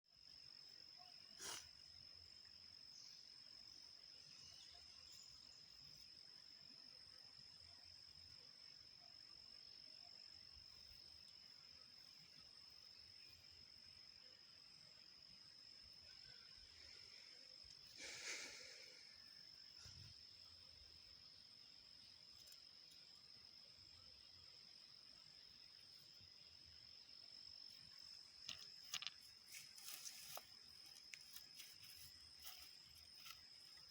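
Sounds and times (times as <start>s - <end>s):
crickets trilling: 0.1s - 33.9s.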